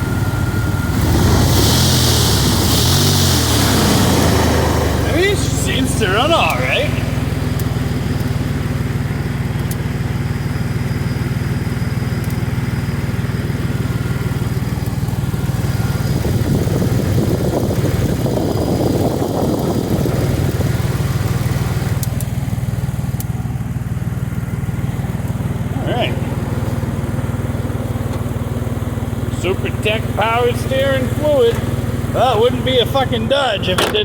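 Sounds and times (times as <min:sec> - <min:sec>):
pickup engine idling roughly: 0:00.0 - 0:34.0.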